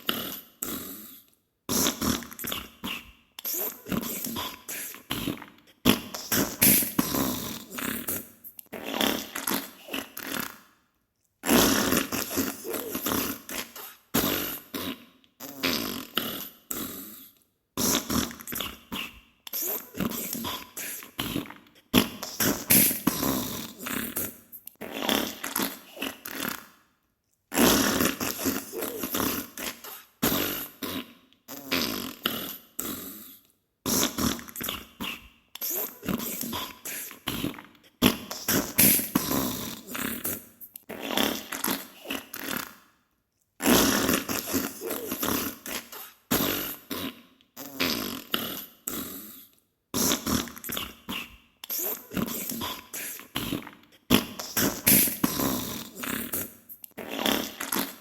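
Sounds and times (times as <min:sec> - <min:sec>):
fart sounds: 0:00.0 - 0:10.8, 0:11.4 - 0:26.8, 0:27.5 - 0:42.9, 0:43.6 - 0:58.0.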